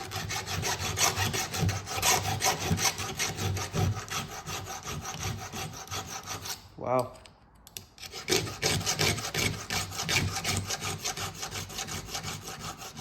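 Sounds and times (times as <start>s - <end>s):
file rasping on chain: 0.0s - 6.7s, 8.0s - 13.0s.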